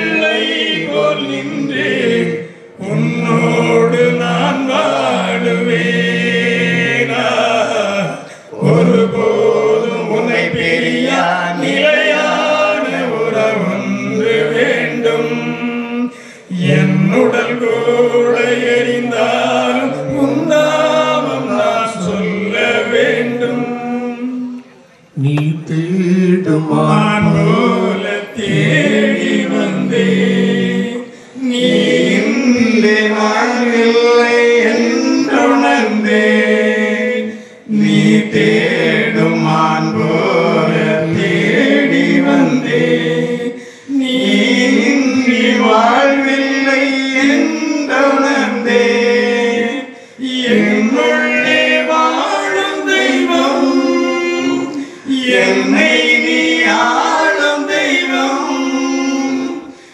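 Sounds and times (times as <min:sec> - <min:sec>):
group singing a hymn: 0:00.0 - 0:59.9.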